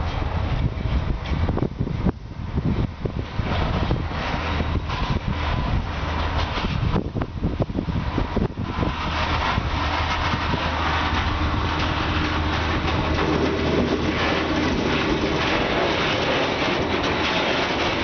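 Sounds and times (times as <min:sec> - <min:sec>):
diesel locomotive engine running: 0:00.0 - 0:18.0
train wheels rolling on track: 0:00.0 - 0:18.0.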